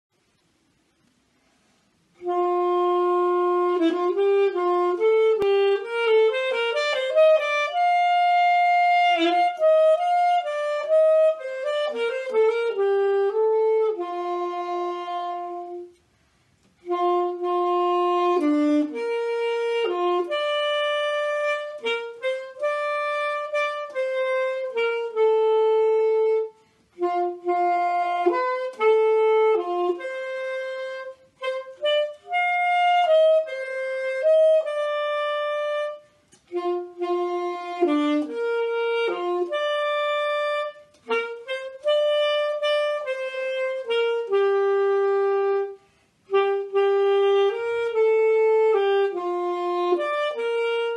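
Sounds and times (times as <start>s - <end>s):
alto saxophone solo: 1.3s - 50.9s.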